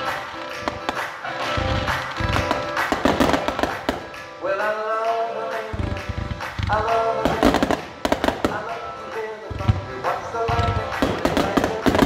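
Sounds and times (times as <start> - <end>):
fireworks banging and crackling: 0.0 - 12.0
music with singing voice: 0.0 - 12.0.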